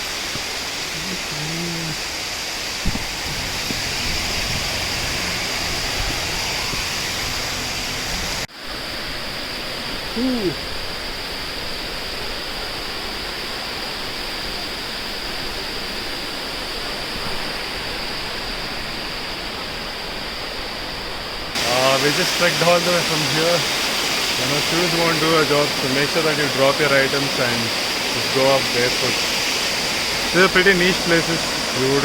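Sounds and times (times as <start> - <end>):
waterfall rushing: 0.0 - 20.3, 21.5 - 32.0.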